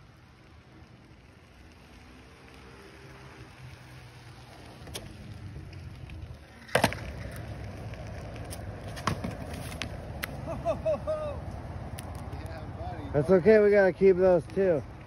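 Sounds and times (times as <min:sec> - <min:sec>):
electric board rolling on concrete: 0:00.0 - 0:15.0.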